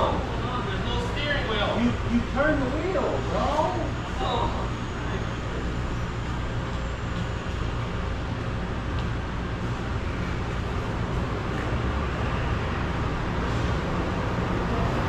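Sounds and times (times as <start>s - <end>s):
broad steady noise: 0.0s - 15.0s.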